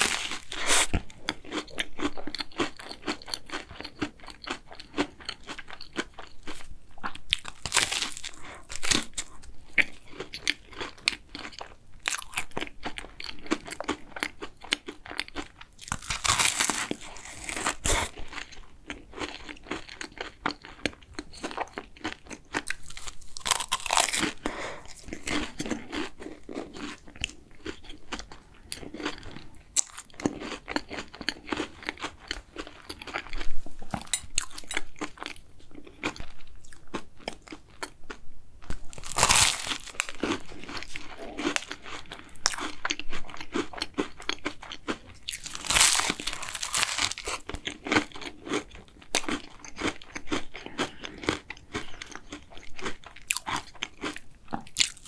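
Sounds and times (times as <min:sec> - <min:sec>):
crunchy pastry chewing: 0:00.0 - 0:55.0.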